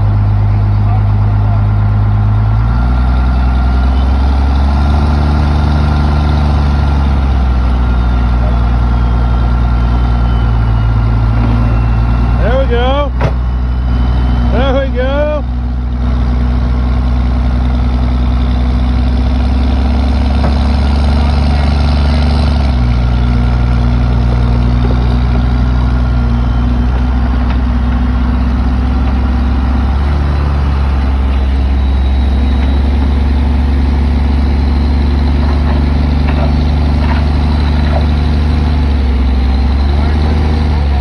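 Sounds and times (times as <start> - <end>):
heavy equipment engine droning: 0.0 - 41.0.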